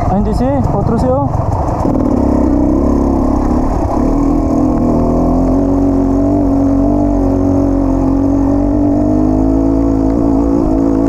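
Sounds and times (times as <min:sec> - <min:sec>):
dirt bike engine revving: 0:00.9 - 0:11.0.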